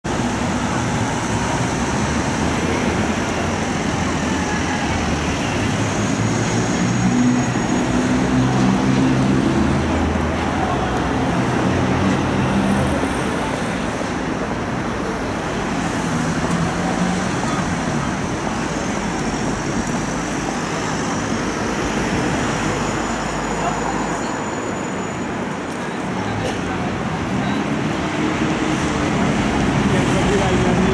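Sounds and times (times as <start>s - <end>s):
road noise: 0.0s - 30.9s
passing vehicle engines: 0.1s - 30.9s.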